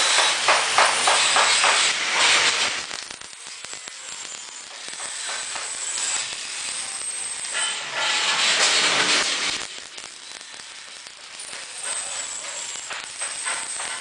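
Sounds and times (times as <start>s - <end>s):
hissing noise: 0.0s - 14.0s.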